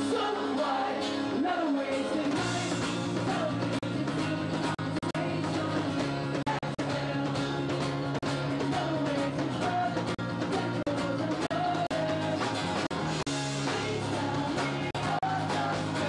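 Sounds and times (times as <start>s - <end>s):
man singing into a microphone: 0.0s - 7.8s, 8.5s - 12.7s, 13.6s - 16.0s
acoustic guitars strumming: 0.0s - 16.0s.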